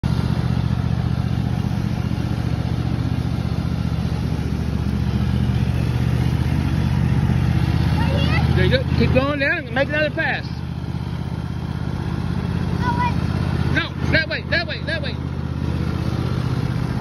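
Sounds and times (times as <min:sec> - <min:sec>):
riding lawn mower engine: 0:00.0 - 0:17.0.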